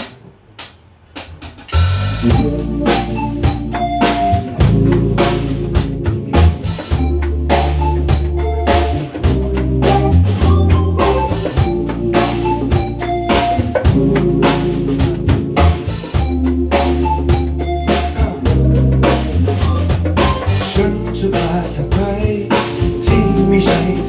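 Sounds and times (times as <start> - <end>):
drum kit beat: 0.0 - 24.0
bass line: 1.7 - 24.0.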